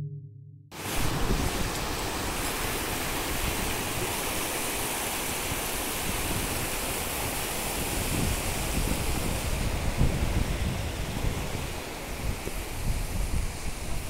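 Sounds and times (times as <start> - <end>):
river rushing over boulders: 0.8 - 14.0.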